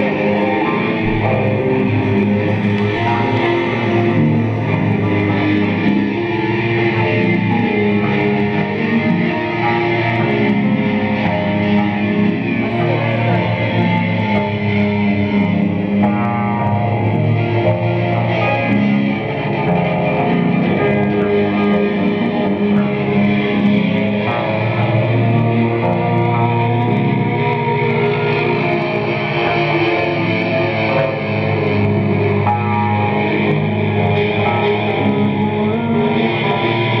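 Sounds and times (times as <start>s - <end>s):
distorted droning noise music: 0.0s - 37.0s.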